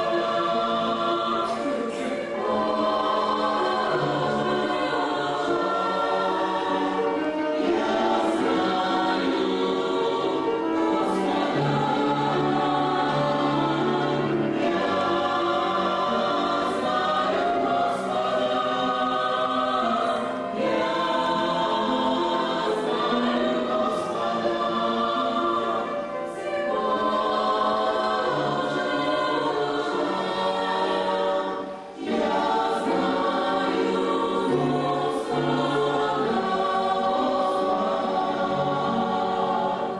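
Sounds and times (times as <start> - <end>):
vocal group singing a hymn: 0.0 - 39.9.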